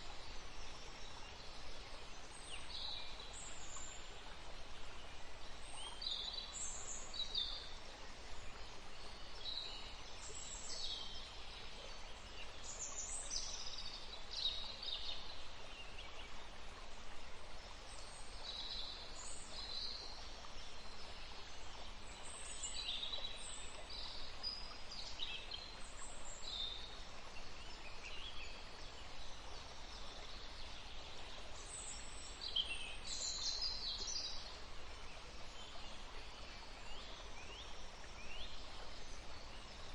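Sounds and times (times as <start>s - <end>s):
small stream rushing: 0.0s - 39.9s.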